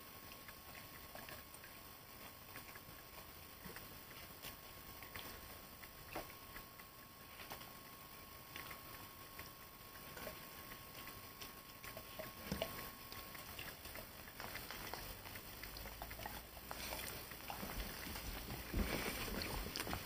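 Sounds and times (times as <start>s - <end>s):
dog crunching food: 0.3s - 20.0s.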